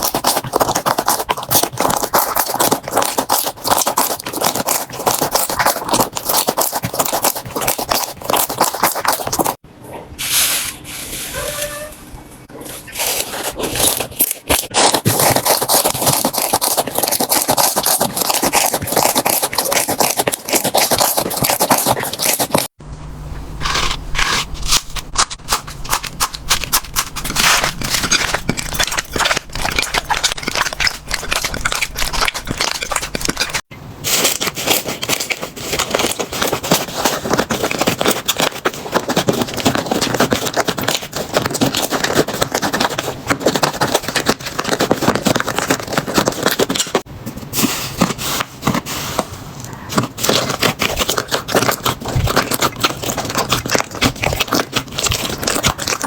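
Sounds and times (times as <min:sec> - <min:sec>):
slime scraping: 0:00.0 - 0:09.6, 0:10.2 - 0:22.8, 0:23.6 - 0:56.0.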